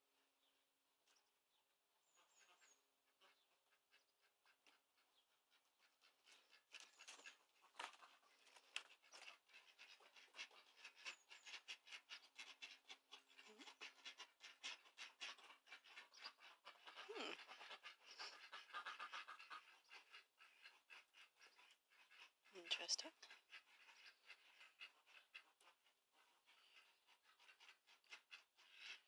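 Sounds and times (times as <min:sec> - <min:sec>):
animal panting: 0:02.2 - 0:29.0.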